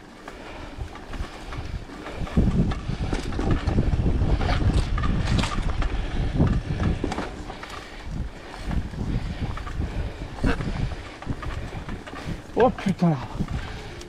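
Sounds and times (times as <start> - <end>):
bike frame knocking and rattling: 0.0 - 14.0
wind buffeting microphone: 0.0 - 14.0.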